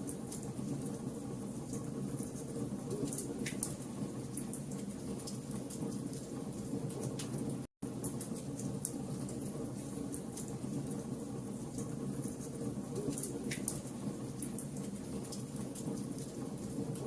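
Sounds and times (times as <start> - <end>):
fire crackling and popping: 1.6 - 17.0.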